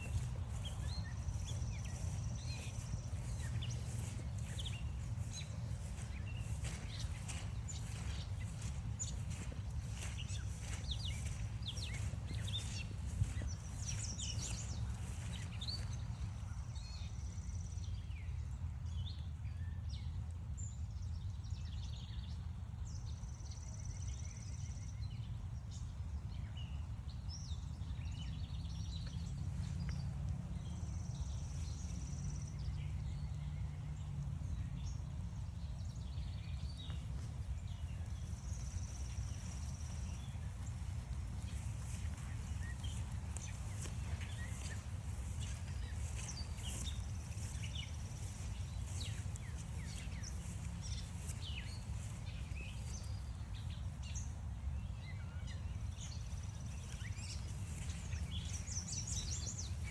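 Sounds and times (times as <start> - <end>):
steady low rumble: 0.0 - 17.3, 28.8 - 59.9
birds chirping: 0.0 - 17.6, 27.4 - 59.9.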